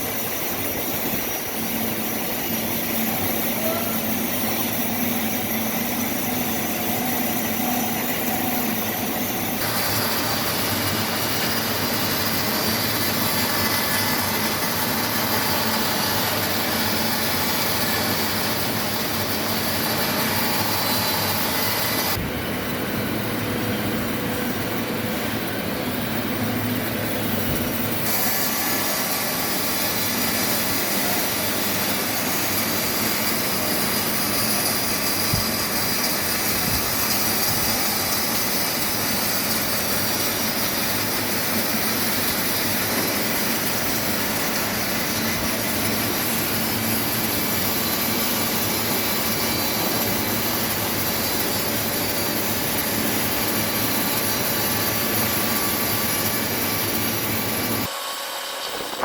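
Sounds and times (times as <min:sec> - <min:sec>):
sawmill saw cutting log: 0:00.0 - 0:22.3, 0:23.0 - 0:59.0.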